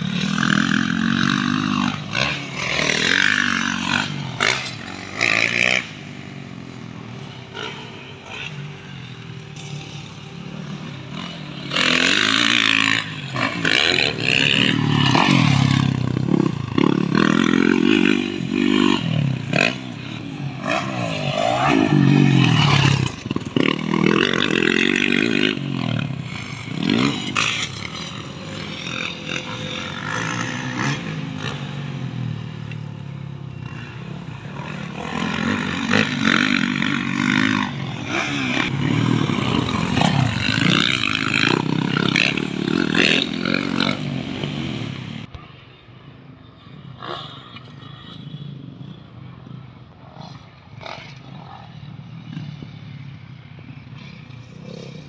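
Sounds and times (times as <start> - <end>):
dirt bike engine revving: 0.0 - 45.3.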